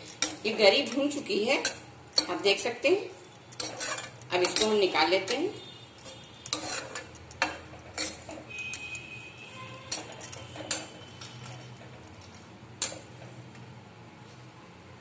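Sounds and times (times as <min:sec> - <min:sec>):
metal spatula scraping pan: 0:00.0 - 0:13.0.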